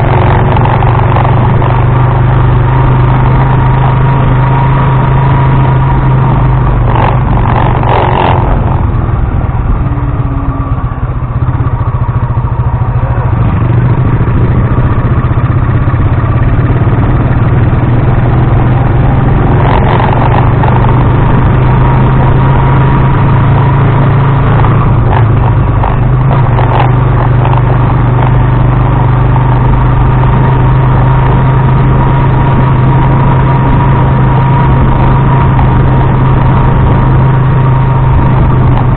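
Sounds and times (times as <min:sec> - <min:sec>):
motorcycle engine drone: 0:00.0 - 0:38.9
vibration noise: 0:00.0 - 0:38.9.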